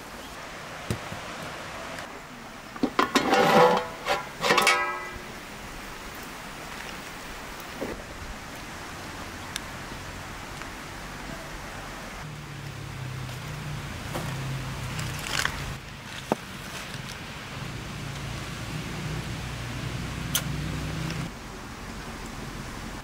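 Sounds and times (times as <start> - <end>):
water boiling with hiss: 0.0 - 23.0.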